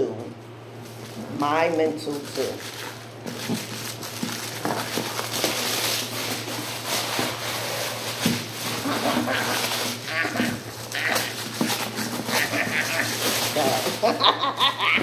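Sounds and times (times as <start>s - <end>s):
paper packaging rustling: 2.1s - 15.0s.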